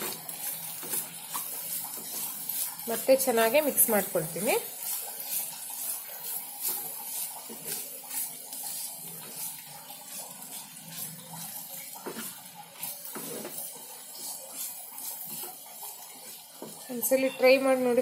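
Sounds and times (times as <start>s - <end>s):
spatula scraping pan: 0.0s - 18.0s
vegetables sizzling in oil: 0.0s - 18.0s.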